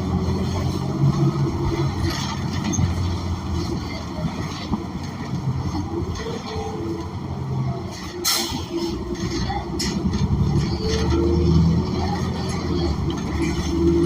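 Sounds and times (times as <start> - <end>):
bus engine humming: 0.0 - 14.0
road noise: 0.0 - 14.0.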